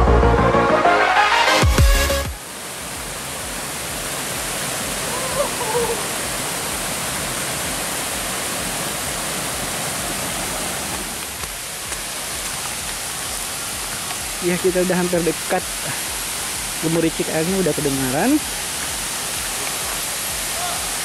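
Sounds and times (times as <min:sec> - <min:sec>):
waterfall rushing: 0:00.4 - 0:21.0.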